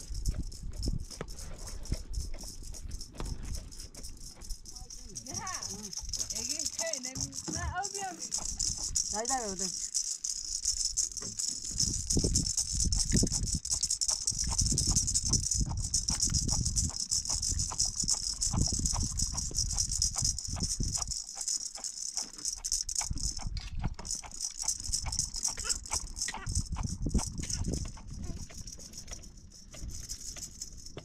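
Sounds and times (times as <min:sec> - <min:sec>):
plastic toy rattle shaking: 0:00.0 - 0:31.0.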